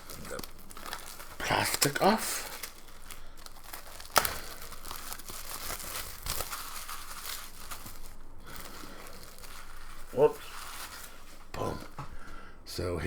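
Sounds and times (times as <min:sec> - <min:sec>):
plastic wrap tearing and crinkling: 0:00.0 - 0:12.0.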